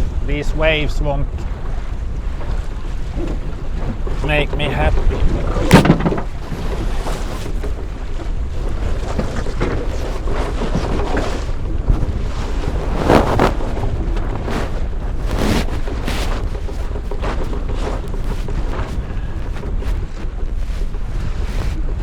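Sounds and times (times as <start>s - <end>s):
water rushing past boat: 0.0s - 22.0s
waves splashing against hull: 0.0s - 22.0s
wind buffeting microphone: 0.0s - 22.0s.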